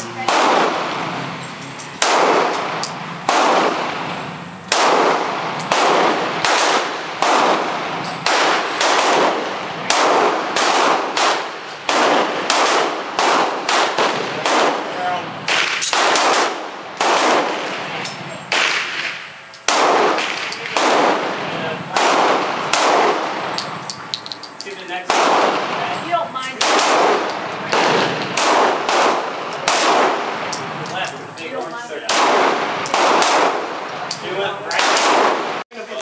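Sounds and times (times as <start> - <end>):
gunshots echoing: 0.2 - 1.3, 2.0 - 24.4, 25.0 - 26.0, 26.6 - 31.1, 32.0 - 35.6.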